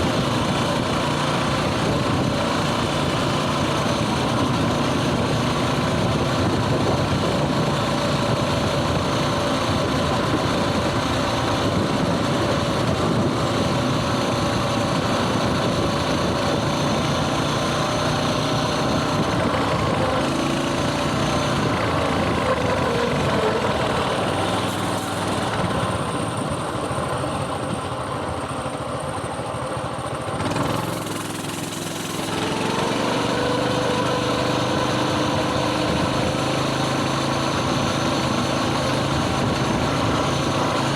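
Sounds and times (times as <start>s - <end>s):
mini bike engine running: 0.0s - 40.9s.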